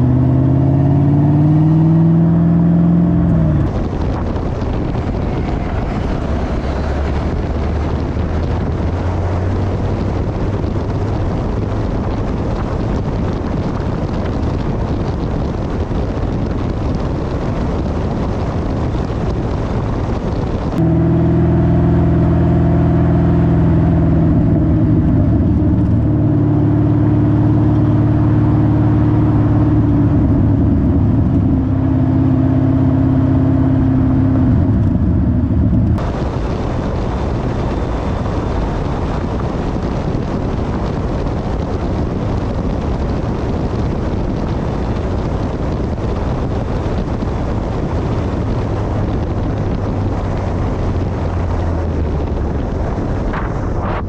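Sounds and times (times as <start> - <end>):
car exhaust droning: 0.0 - 54.0
wind rushing over camera: 0.0 - 54.0.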